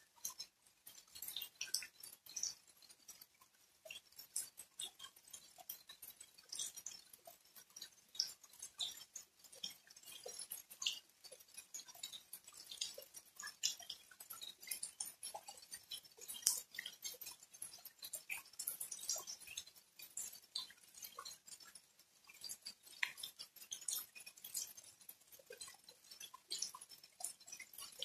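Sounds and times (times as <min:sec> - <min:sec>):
raindrops pattering: 0:00.1 - 0:28.0.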